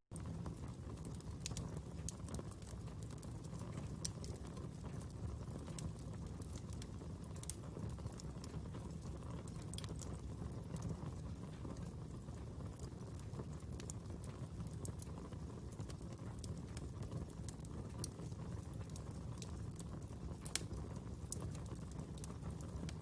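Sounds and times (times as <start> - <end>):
fire crackling and popping: 0.1 - 23.0.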